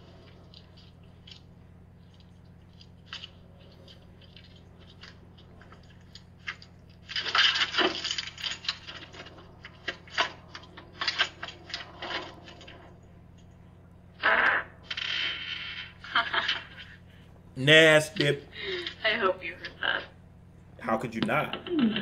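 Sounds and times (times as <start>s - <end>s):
crackly rustling: 0.0s - 22.0s.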